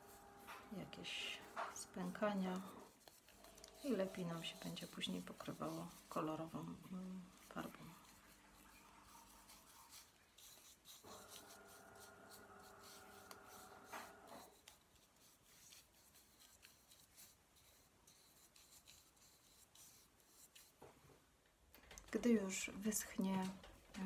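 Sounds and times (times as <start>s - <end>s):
paintbrush dabbing on styrofoam: 0.0s - 20.9s
faint multi-tone hum: 0.0s - 24.0s.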